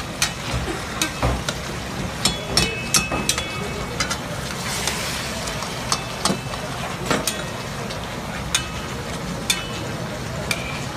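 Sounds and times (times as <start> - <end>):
frying hiss: 0.0 - 10.9
metal ladle clanking in wok: 0.2 - 10.9.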